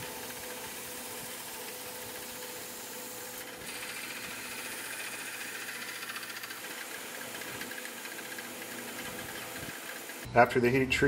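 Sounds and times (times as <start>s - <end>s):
belt grinder motor humming: 0.0s - 10.3s.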